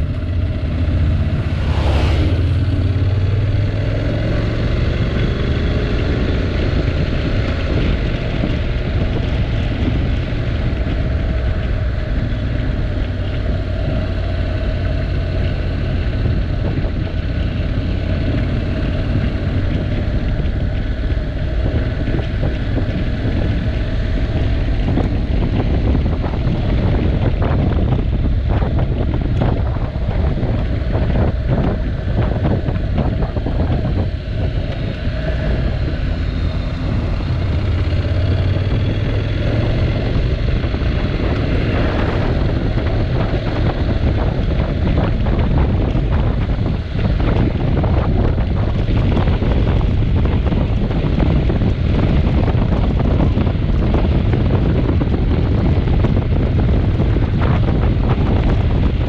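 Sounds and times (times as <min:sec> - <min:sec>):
motorcycle engine cruising: 0:00.0 - 0:59.0
wind noise on microphone: 0:00.0 - 0:59.0.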